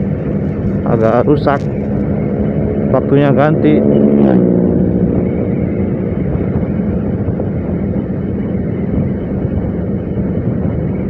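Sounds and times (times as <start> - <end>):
motorcycle engine hum: 0.0 - 11.0
road and wind noise: 0.0 - 11.0.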